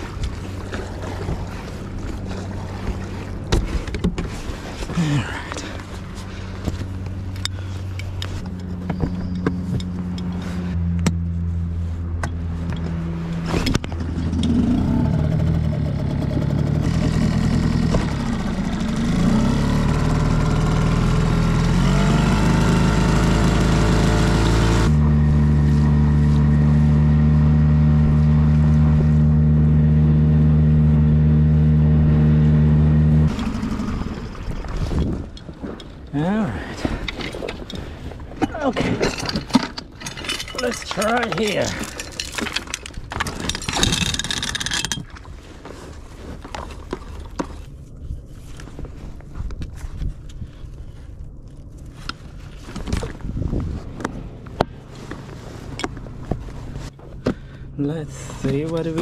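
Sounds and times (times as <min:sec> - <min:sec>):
outboard motor running: 0:00.0 - 0:39.6, 0:40.6 - 0:59.0.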